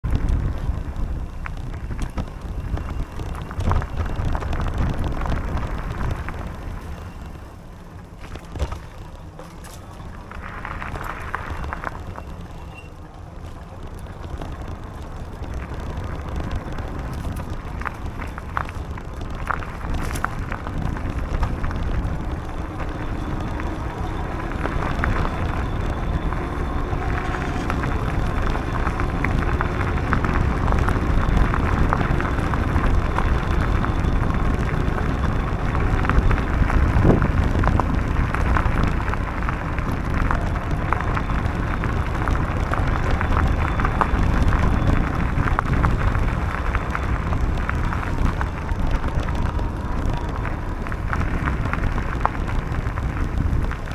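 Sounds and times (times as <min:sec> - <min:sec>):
bicycle tyres on gravel: 0:00.0 - 0:53.9
wind rumble on microphone: 0:00.0 - 0:53.9.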